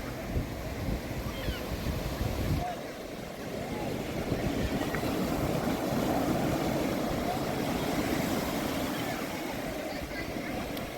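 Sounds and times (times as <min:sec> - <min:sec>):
waves breaking on beach: 0:00.0 - 0:10.9.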